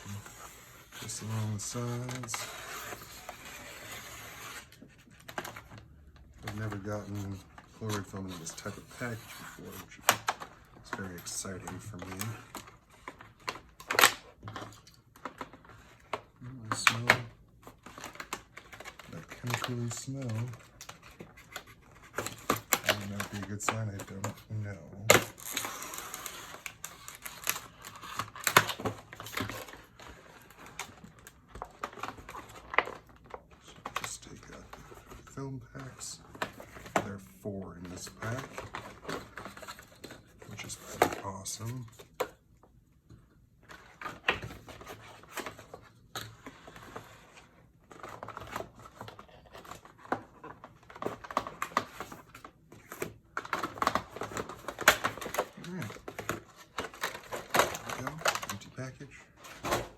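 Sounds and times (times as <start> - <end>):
cardboard rustling: 0.0 - 42.4, 43.6 - 59.9.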